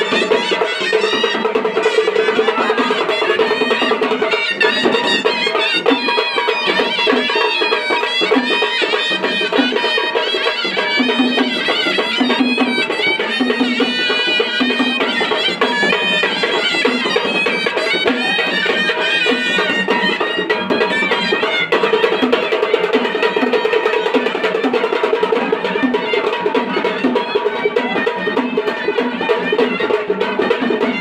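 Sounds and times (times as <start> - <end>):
drums: 0.0 - 31.0
reed wind instrument melody: 0.0 - 31.0.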